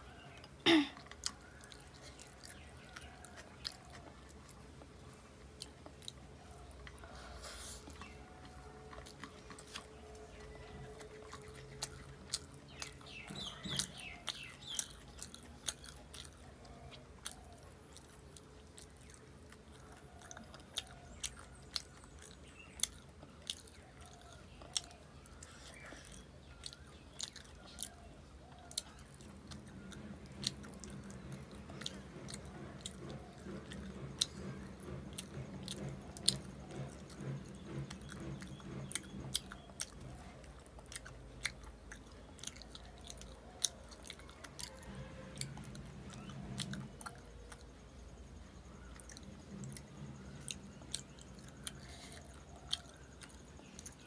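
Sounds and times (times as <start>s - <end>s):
close-up chewing: 0.0s - 54.0s
low steady hum: 0.0s - 54.0s.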